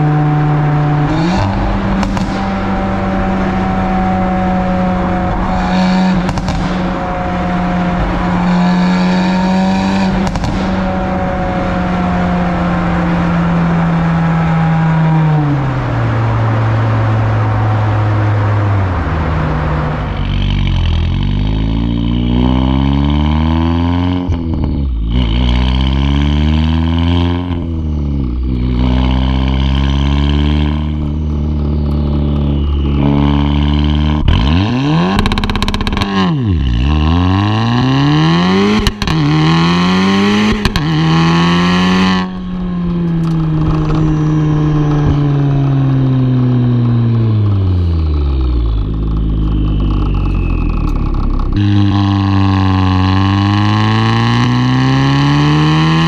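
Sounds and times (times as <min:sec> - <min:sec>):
car exhaust accelerating: 0:00.0 - 0:56.0.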